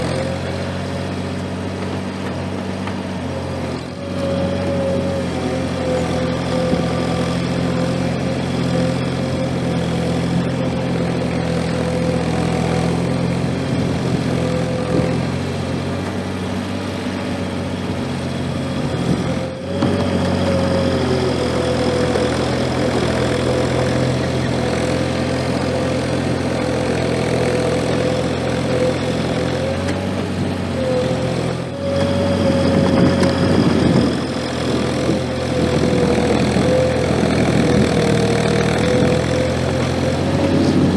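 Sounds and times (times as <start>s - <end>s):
skid steer engine running: 0.0s - 40.9s.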